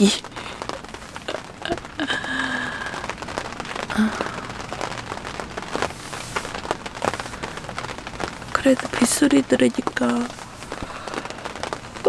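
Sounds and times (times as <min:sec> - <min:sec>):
rain on canvas tent: 0:00.0 - 0:12.0.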